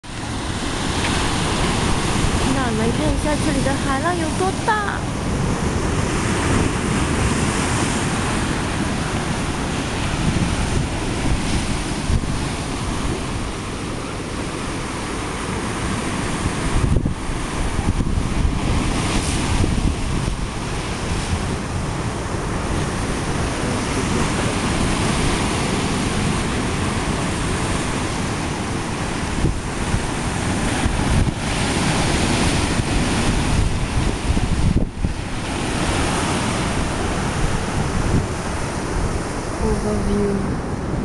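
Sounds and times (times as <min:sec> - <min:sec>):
wind buffeting microphone: 0:00.0 - 0:41.0
surf breaking on rocky shore: 0:00.1 - 0:41.0.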